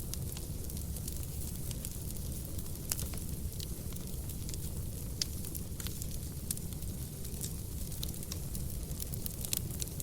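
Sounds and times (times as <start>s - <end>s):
fire rumbling and hissing: 0.0s - 10.0s
logs crackling and popping: 0.0s - 10.0s.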